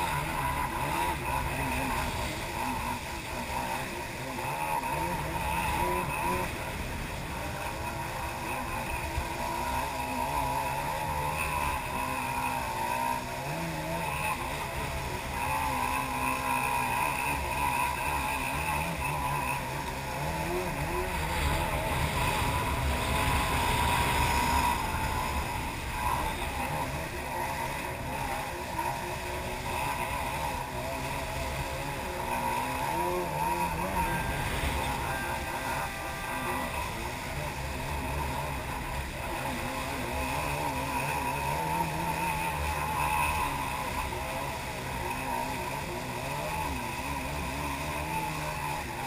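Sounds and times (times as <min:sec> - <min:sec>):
jet ski engine running: 0:00.0 - 0:49.0
water rushing: 0:00.0 - 0:49.0.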